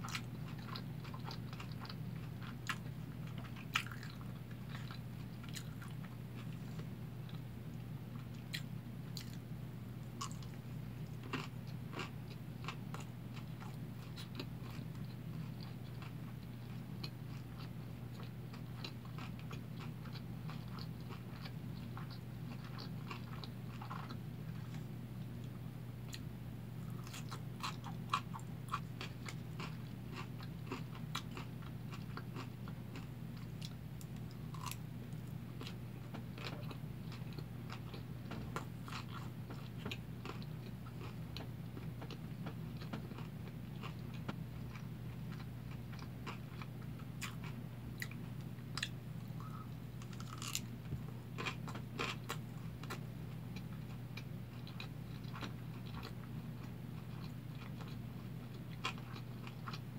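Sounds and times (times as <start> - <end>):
crunching and chewing pickled radish: 0.0 - 59.9
steady low hum: 0.0 - 59.9.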